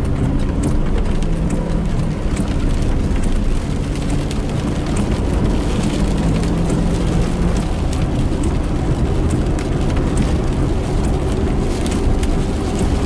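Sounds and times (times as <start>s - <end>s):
car road and engine rumble: 0.0s - 13.0s
raindrops ticking on windshield: 0.0s - 13.0s.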